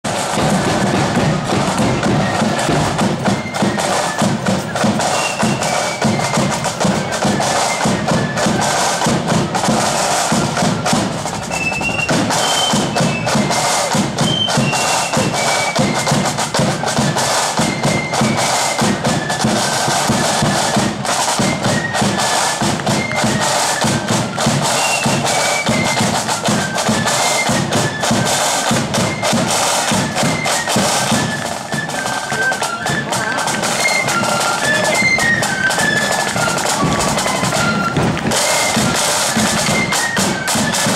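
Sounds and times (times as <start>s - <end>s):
rapid snare drumming: 0.0s - 40.9s
flutes playing a melody: 0.1s - 40.9s.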